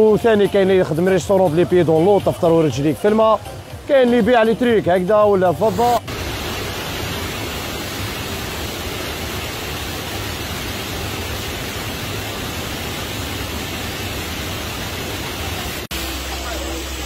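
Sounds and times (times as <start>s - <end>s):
waterfall rushing: 2.0s - 17.0s.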